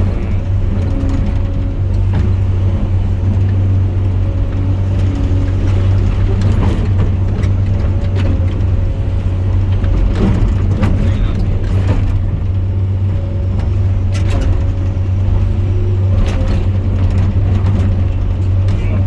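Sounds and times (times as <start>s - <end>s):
diesel loader droning: 0.0s - 19.0s.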